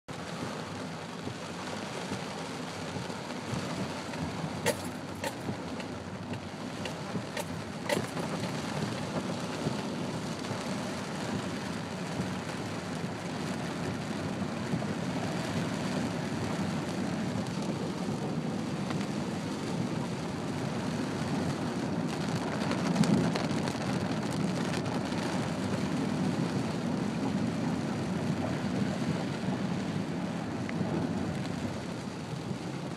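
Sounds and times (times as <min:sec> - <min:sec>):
heavy rain on car roof: 0:00.1 - 0:32.9.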